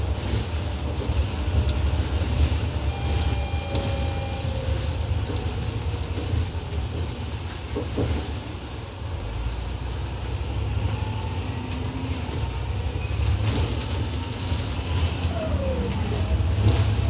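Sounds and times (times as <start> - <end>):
bus engine drone: 0.0 - 17.0
road rumble: 0.0 - 17.0.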